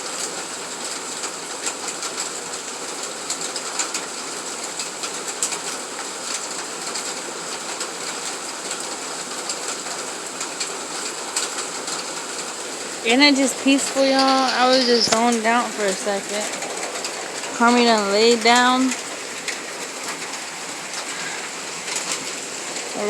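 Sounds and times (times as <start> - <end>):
raindrops tapping close by: 0.0 - 23.0
steady rain falling: 0.0 - 23.0.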